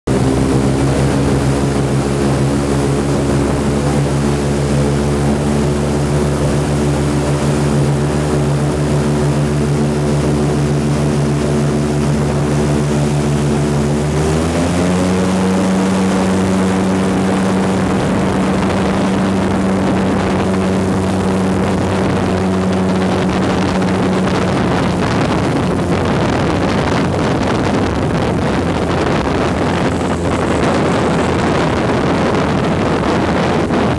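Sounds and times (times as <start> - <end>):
airboat engine and propeller: 0.0 - 33.9
water rushing: 0.1 - 33.9.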